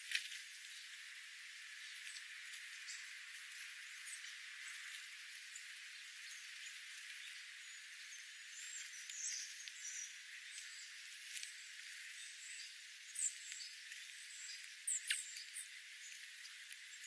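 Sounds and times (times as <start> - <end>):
small birds chirping: 0.5 - 17.0.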